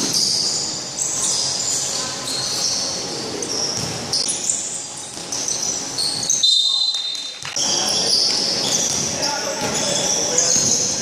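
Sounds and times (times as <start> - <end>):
sneakers squeaking on wooden court: 0.0 - 11.0.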